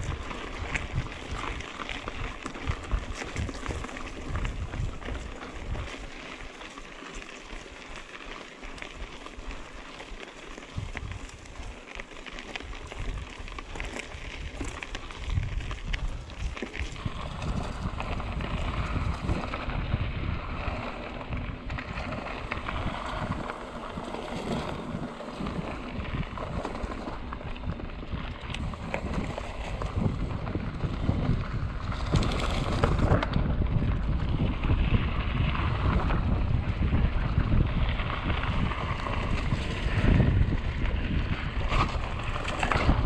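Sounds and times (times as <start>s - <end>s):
wind buffeting microphone: 0.0s - 6.6s, 9.0s - 11.7s, 12.6s - 43.0s
trail and tyre rumble: 0.0s - 43.0s.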